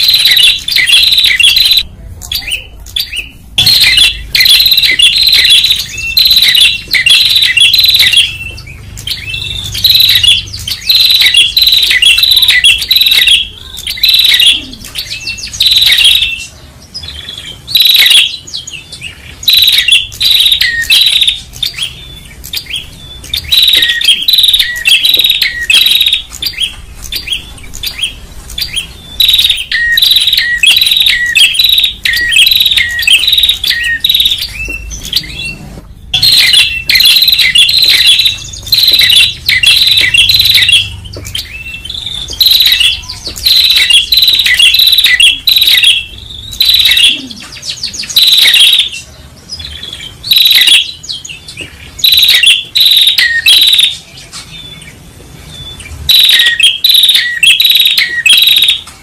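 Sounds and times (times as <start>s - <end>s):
bird sharp chirps: 0.0s - 1.8s, 2.4s - 55.0s.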